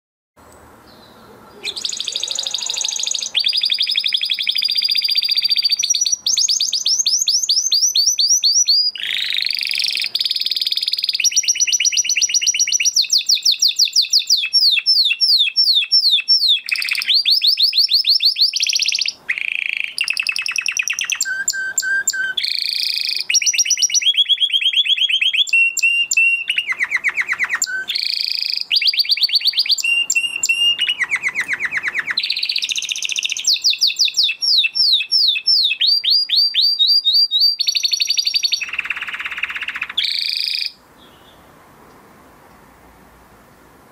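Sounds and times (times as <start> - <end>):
canary singing trills: 0.4 - 41.5.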